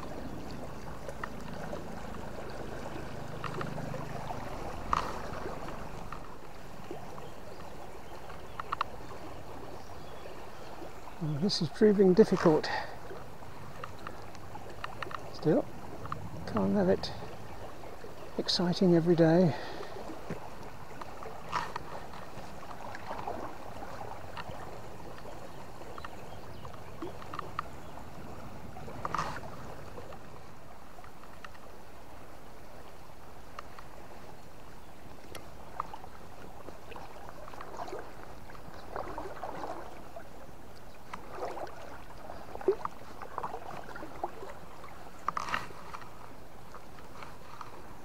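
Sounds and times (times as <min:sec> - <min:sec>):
river water running: 0:00.0 - 0:48.0
water splashing from wading: 0:00.0 - 0:48.0.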